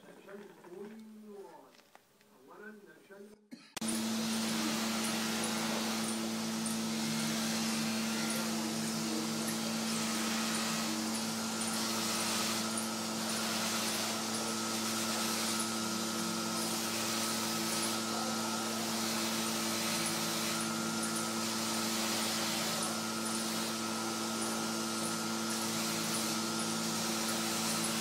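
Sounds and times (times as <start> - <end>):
buffing wheel hissing on metal: 3.8 - 28.0
polishing motor humming: 3.8 - 28.0.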